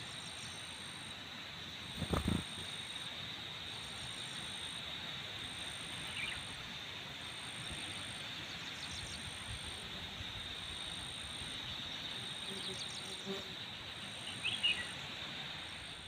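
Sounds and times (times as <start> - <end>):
high-pitched insect chirp: 0.0 - 16.0
insect buzz: 0.0 - 16.0.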